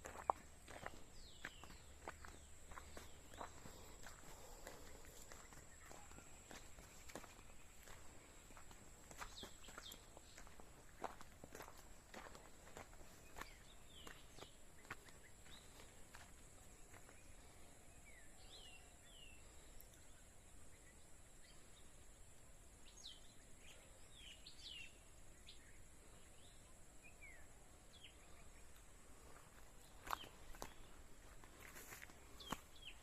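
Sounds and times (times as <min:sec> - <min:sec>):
faint birds chirping: 0:00.0 - 0:33.0.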